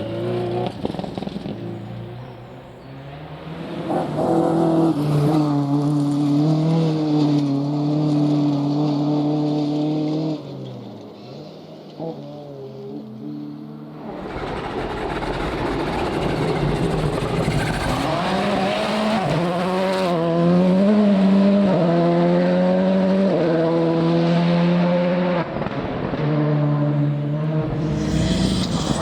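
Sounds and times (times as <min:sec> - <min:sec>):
rally car engine at full throttle: 0:00.0 - 0:29.0.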